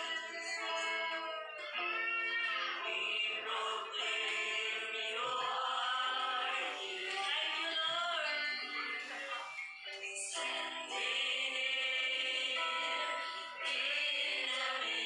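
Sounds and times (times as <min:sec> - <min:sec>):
church band music: 0:00.0 - 0:15.0
voices singing worship songs: 0:00.0 - 0:15.0.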